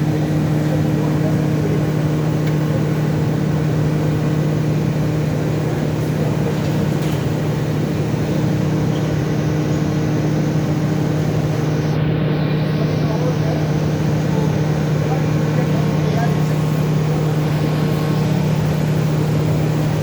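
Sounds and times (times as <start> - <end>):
faint higher machine tones: 0.0 - 20.0
machine humming: 0.0 - 20.0.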